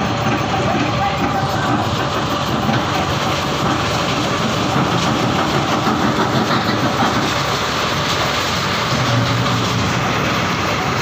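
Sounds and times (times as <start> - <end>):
stone crusher machinery rattling: 0.0 - 11.0.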